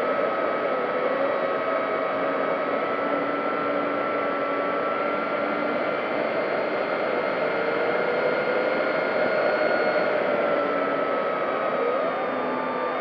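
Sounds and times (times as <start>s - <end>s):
model plane electric motor whine: 0.0s - 13.0s.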